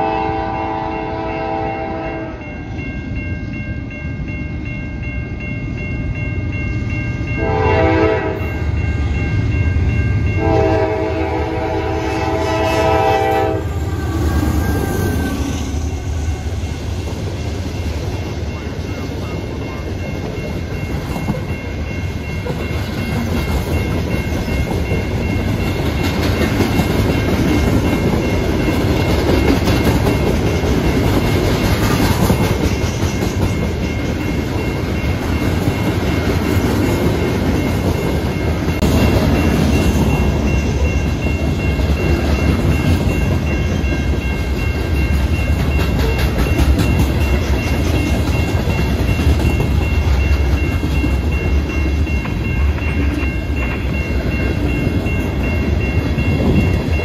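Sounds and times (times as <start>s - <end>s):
freight train wheels clattering: 10.4s - 57.0s.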